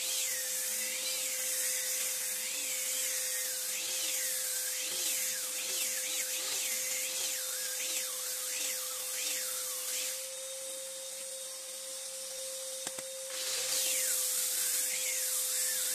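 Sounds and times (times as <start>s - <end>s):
angle grinder motor whine: 0.0s - 15.9s
sanding disc hissing on wood: 0.0s - 15.9s.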